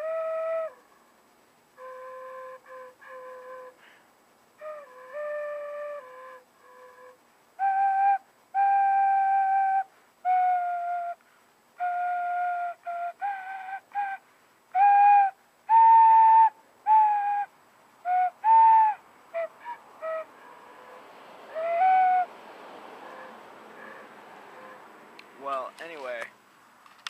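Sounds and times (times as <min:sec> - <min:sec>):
recorder playing slow melody: 0:00.0 - 0:00.9, 0:01.8 - 0:04.0, 0:04.6 - 0:11.2, 0:11.8 - 0:22.3, 0:23.0 - 0:24.9.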